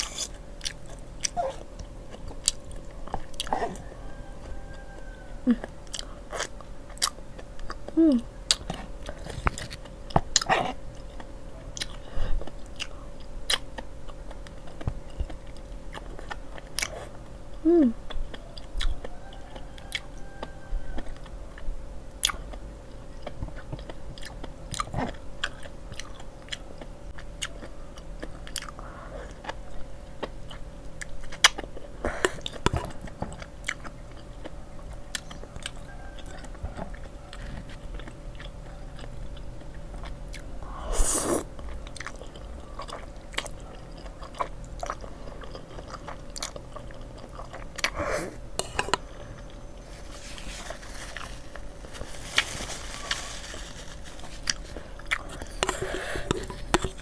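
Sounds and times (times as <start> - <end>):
chewing and biting food: 0.0 - 48.0, 48.6 - 57.0
faint steady hum: 0.0 - 57.0.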